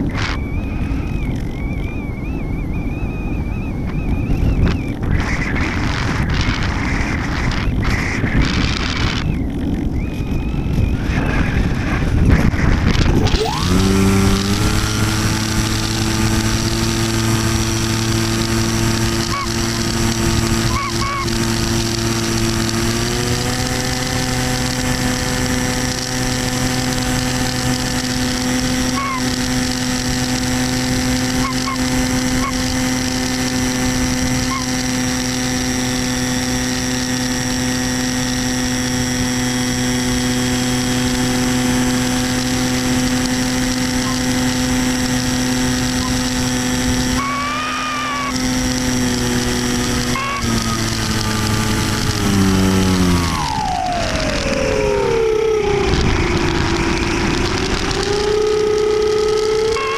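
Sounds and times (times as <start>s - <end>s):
model plane motor whine: 0.0s - 59.9s.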